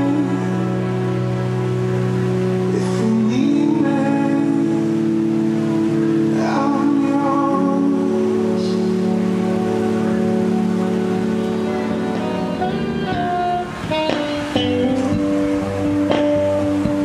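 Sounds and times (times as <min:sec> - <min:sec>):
ambient electronic music: 0:00.0 - 0:17.0.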